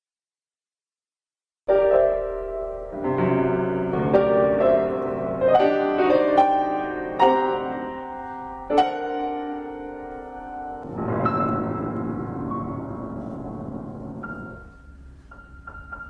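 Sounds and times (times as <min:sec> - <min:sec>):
solo piano playing chords: 0:01.7 - 0:16.0.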